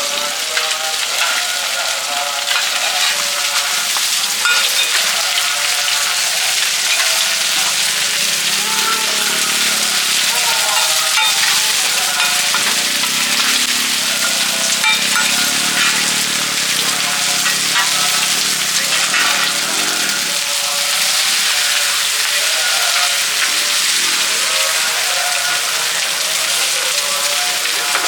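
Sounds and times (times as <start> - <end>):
omelette sizzling in hot oil: 0.0 - 28.0.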